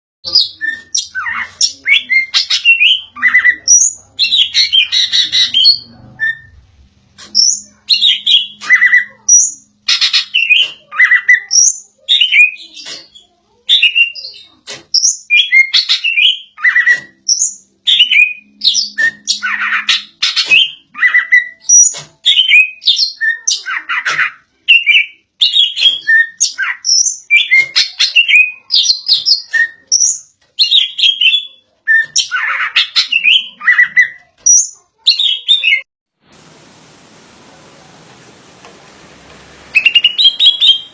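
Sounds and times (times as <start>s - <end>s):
bird singing: 0.3s - 6.6s, 7.4s - 35.9s, 39.7s - 40.9s.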